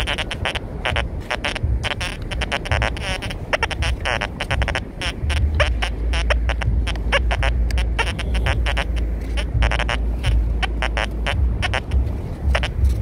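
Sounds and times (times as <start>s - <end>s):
metal detector chirps: 0.0s - 13.0s
steady low rumble: 0.0s - 13.0s.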